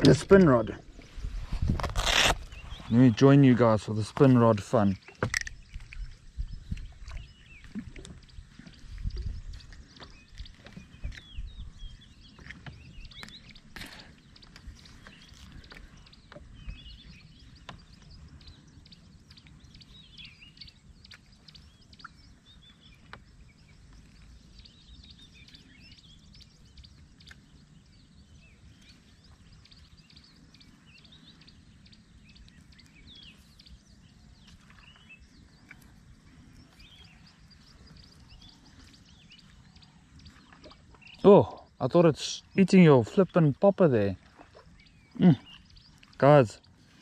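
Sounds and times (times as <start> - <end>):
low rumble of wind: 0.0 - 47.0
bird chirps: 4.6 - 47.0.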